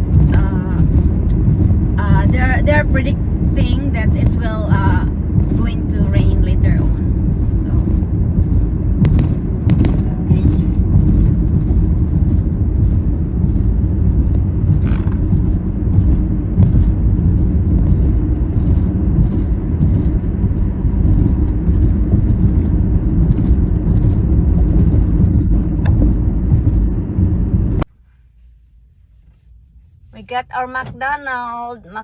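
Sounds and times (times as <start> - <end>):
car road and engine rumble: 0.0 - 28.2, 28.8 - 32.0.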